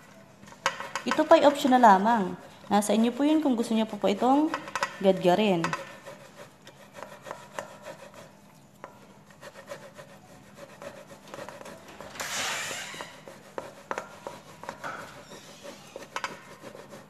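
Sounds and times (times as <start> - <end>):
box grater rasping through dough: 0.9 - 8.4, 9.3 - 17.0.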